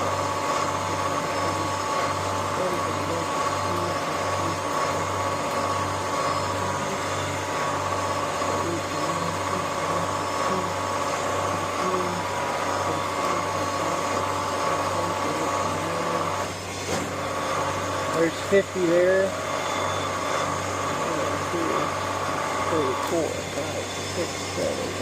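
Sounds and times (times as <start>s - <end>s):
high-pitched whine: 0.0s - 25.0s
pulsing machine hum: 0.0s - 25.0s.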